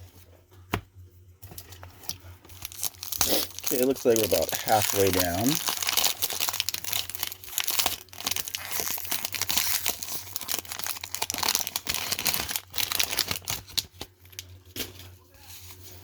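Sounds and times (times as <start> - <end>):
wax paper wrapper crinkling and tearing: 1.5 - 16.0.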